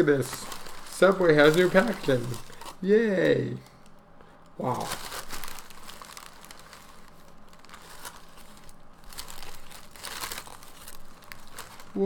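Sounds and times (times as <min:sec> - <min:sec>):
paper wrapping crinkling: 0:00.0 - 0:04.0, 0:04.6 - 0:12.0.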